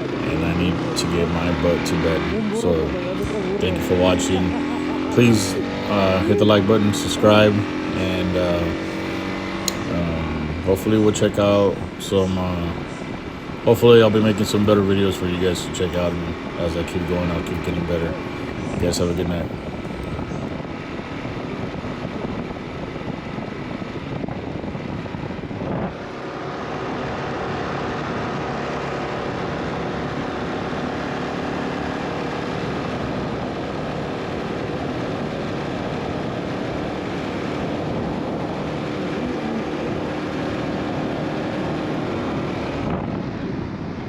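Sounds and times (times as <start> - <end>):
motorcycle engine running: 0.0 - 44.0
wind noise: 0.0 - 44.0.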